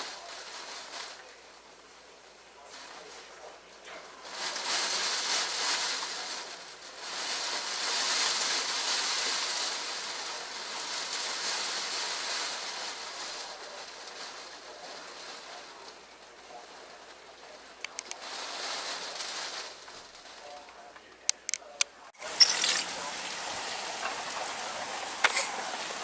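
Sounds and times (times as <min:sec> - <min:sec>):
heavy rain pouring: 0:00.0 - 0:20.6, 0:22.2 - 0:26.0.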